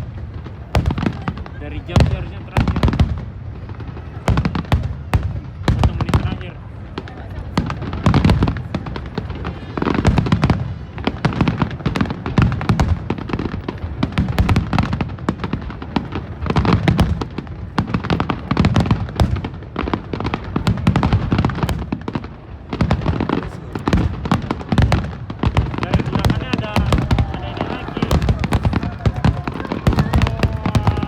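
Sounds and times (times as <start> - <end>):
fireworks booms: 0.0 - 31.0
fireworks crackling: 0.0 - 31.0.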